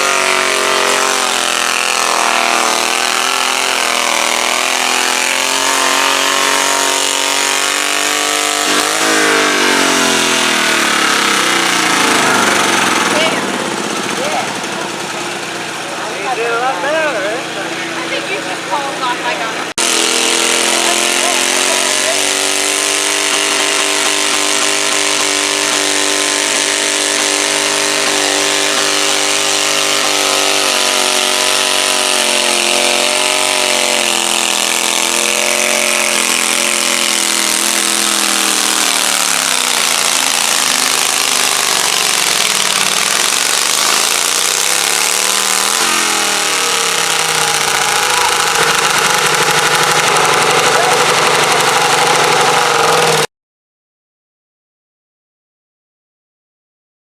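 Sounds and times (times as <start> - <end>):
tractor engine revving: 0.0 - 53.3.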